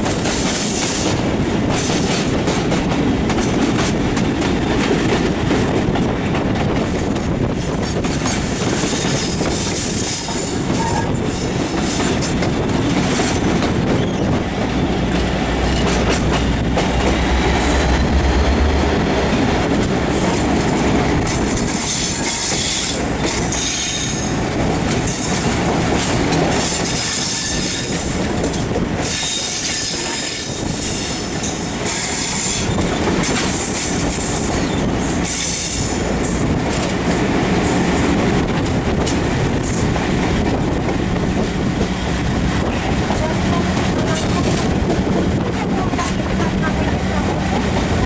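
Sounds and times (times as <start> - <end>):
wheel and rail rumble: 0.0 - 48.0.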